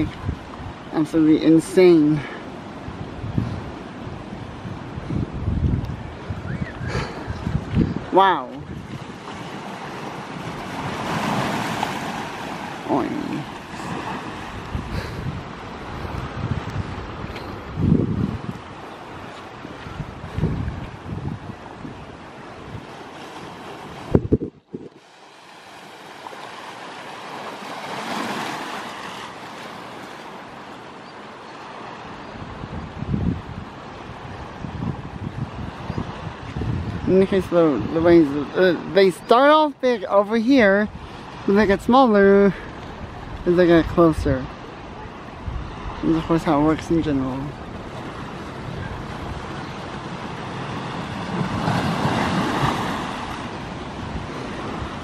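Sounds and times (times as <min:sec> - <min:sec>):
wind buffeting microphone: 0:00.0 - 0:25.1, 0:31.6 - 0:55.0
waves breaking: 0:00.0 - 0:55.0.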